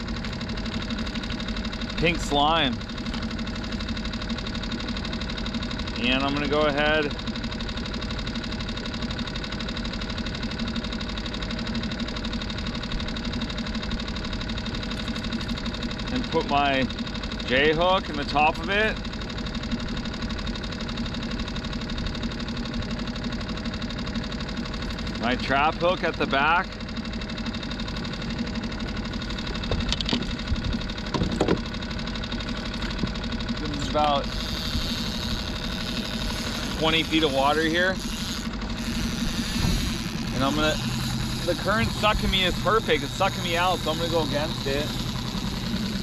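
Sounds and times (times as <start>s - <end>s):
outboard motor idling: 0.0s - 46.0s.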